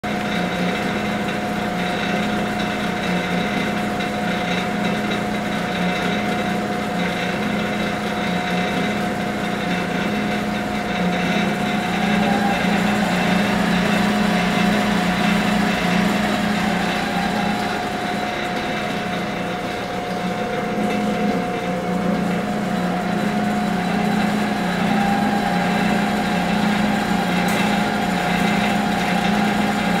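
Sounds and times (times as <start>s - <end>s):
metal lathe humming and whining: 0.0s - 30.0s.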